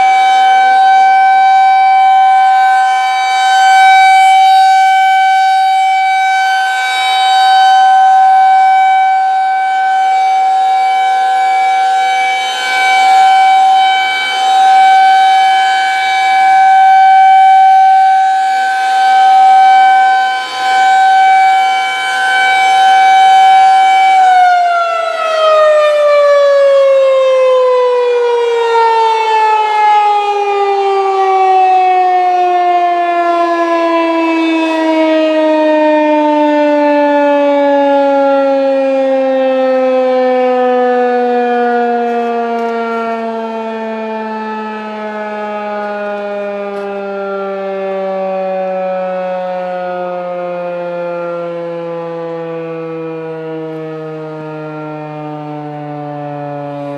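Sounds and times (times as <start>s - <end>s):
rotating warning siren wailing: 0.0s - 56.9s.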